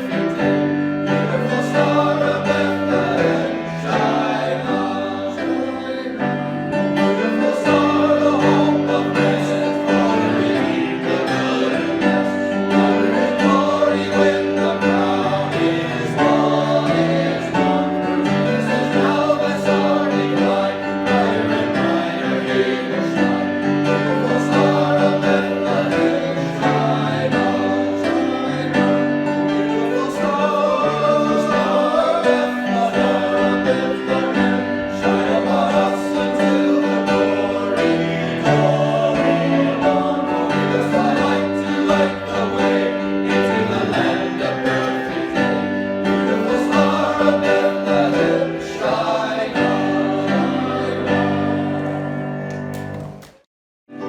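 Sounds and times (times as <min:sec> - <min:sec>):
church choir singing a carol: 0:00.0 - 0:52.9.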